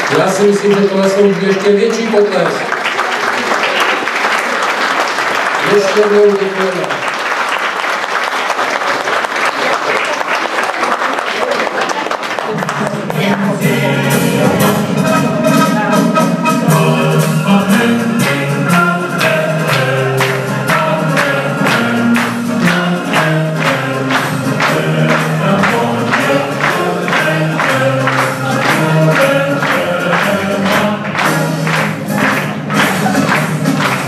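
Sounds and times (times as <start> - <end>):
lively folk dance music: 0.0 - 8.0, 11.8 - 34.0.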